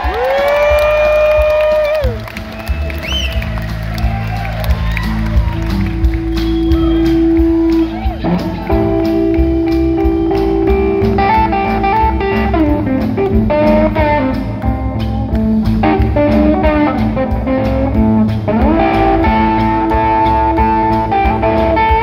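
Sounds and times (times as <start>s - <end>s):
drum kit: 0.0s - 22.0s
electric bass: 0.0s - 22.0s
electric guitar bending long notes: 0.7s - 22.0s.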